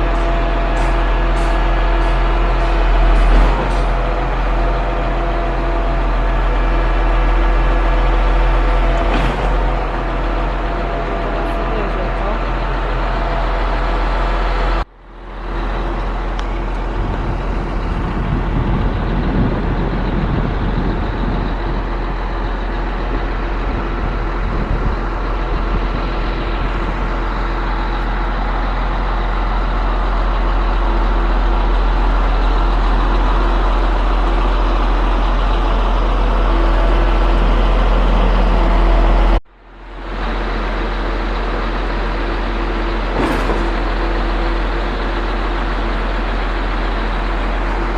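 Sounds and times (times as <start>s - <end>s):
diesel engine under load: 0.0s - 47.9s.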